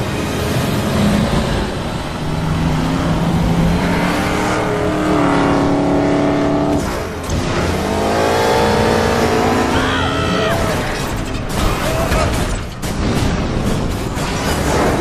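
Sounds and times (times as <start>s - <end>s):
truck and car engines rumbling: 0.0s - 15.0s.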